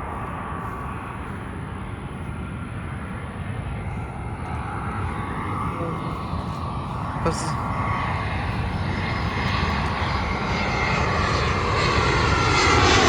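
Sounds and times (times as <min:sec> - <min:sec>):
jet engine rumble with whine: 0:00.0 - 0:13.0.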